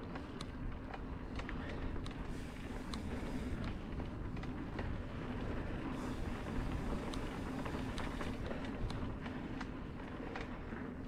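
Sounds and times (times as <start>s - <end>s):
bike clicks and rattles: 0.0s - 11.0s
bike tyres rumbling on dirt: 0.0s - 11.0s.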